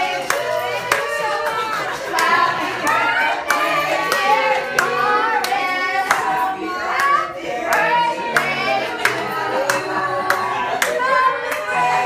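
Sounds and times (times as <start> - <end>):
hand claps keeping time: 0.0 - 11.8
people singing together: 0.0 - 12.0.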